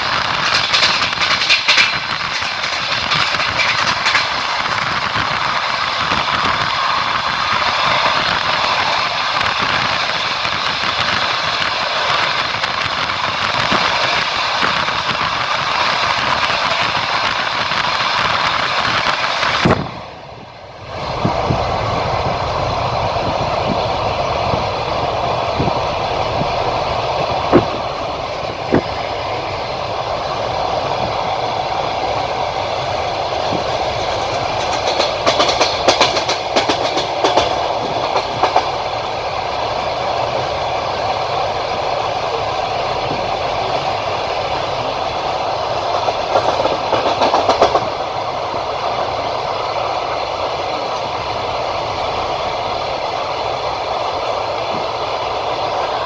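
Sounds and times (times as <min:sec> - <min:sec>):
wheel clicks over rail joints: 0:00.0 - 0:20.0, 0:21.2 - 0:51.4
train rumbling along rails: 0:00.0 - 0:56.0.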